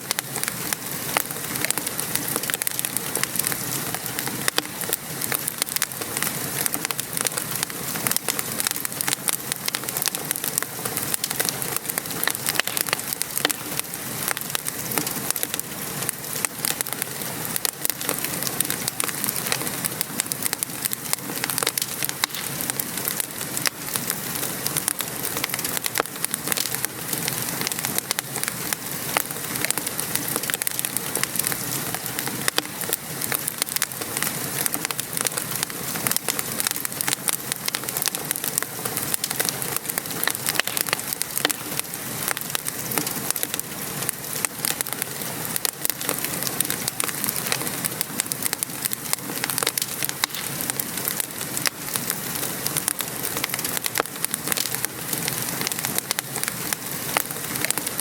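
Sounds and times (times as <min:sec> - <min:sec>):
rain falling: 0:00.0 - 0:58.0
wood fire crackling: 0:00.0 - 0:58.0.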